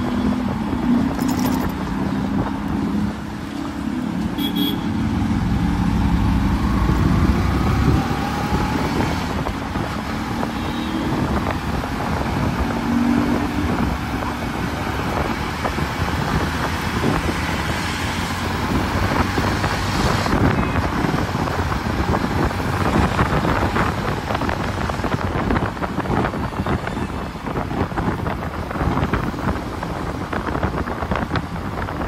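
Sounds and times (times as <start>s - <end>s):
road traffic noise: 0.0s - 32.0s
wind rushing over microphone: 5.1s - 32.0s.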